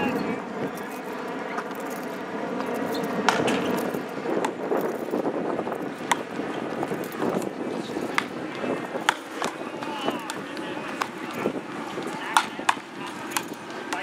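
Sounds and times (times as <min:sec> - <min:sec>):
distant voices: 0:00.0 - 0:14.0.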